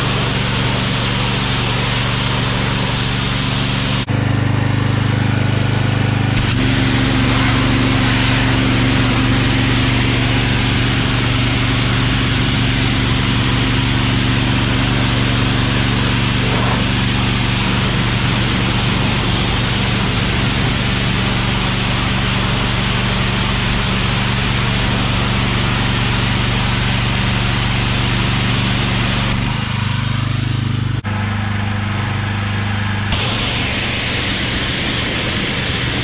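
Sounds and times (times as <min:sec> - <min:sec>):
high-pressure water spray hiss: 0:00.0 - 0:04.1, 0:06.4 - 0:29.3, 0:33.1 - 0:36.0
gas engine running: 0:00.0 - 0:36.0.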